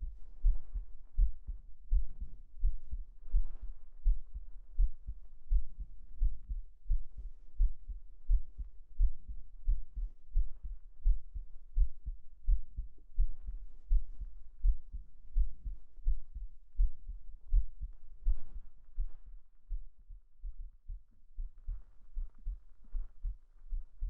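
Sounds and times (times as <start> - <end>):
heartbeat thumps: 0.0 - 24.0.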